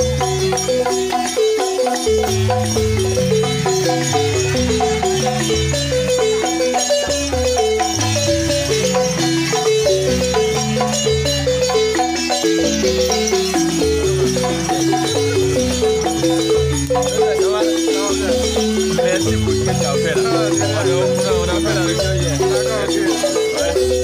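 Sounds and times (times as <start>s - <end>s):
balafons playing: 0.0s - 24.0s.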